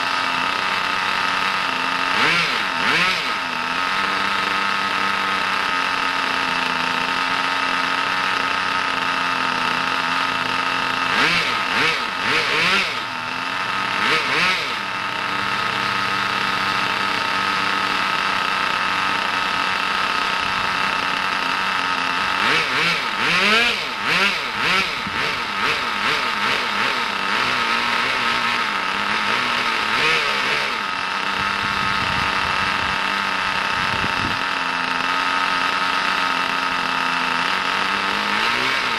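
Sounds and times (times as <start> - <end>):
model car engine idling and revving: 0.0 - 38.9.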